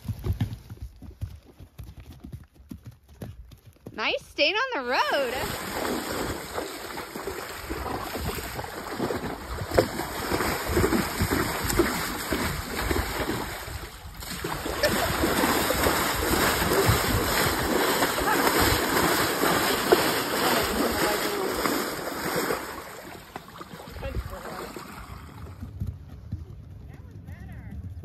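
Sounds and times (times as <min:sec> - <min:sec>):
horse hooves splashing water: 0:00.0 - 0:27.0.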